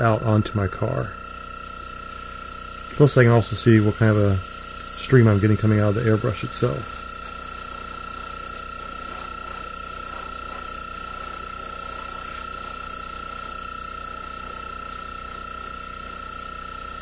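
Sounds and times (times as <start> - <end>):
airbrush hiss of compressed air: 0.9 - 17.0.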